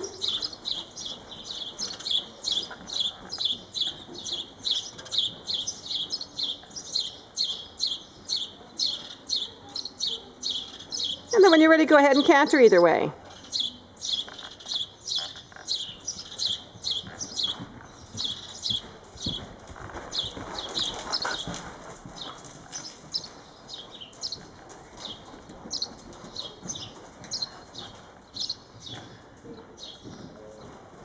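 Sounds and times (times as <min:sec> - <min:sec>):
horse hoofbeats on soft footing: 0:00.0 - 0:09.1, 0:14.2 - 0:31.0.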